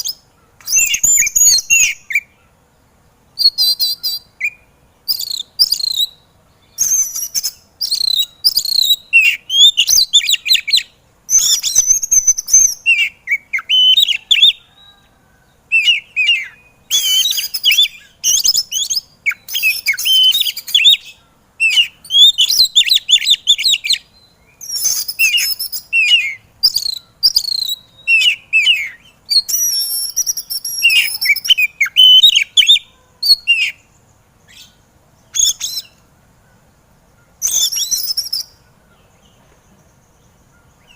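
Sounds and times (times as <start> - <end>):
bird singing varied whistles: 0.0 - 2.4, 3.4 - 15.1, 15.7 - 33.9, 34.5 - 36.0, 37.4 - 38.6.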